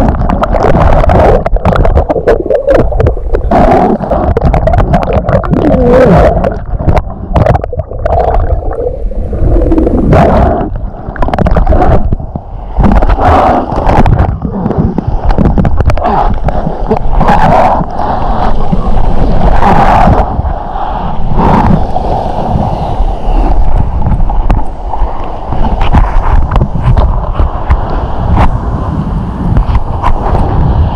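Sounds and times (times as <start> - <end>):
water gurgling and sloshing: 0.0 - 30.9.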